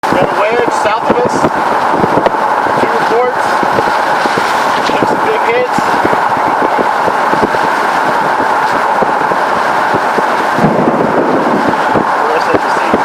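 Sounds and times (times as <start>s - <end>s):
road and wind noise inside vehicle: 0.0s - 13.0s.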